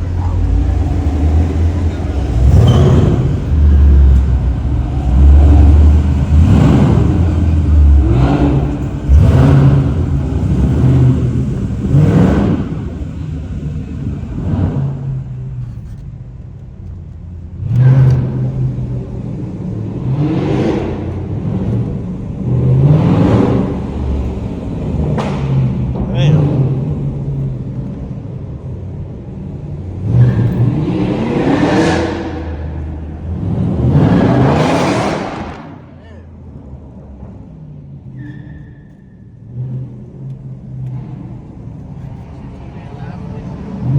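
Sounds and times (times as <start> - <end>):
car engine revving: 0.0 - 16.0, 16.8 - 43.9.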